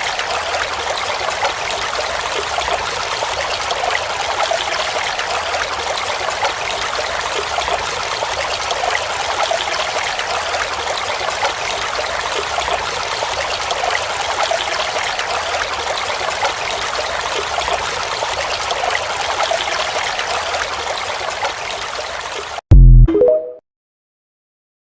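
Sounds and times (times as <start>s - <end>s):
stream flowing over rocks: 0.0s - 22.6s.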